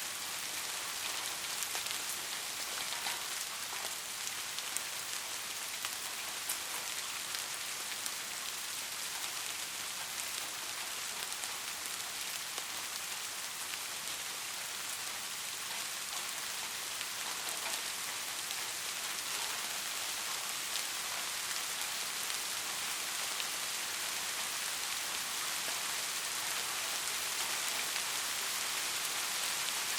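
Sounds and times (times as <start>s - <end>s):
steady rain hiss: 0.0s - 29.9s
faint raindrop ticks: 0.9s - 29.9s.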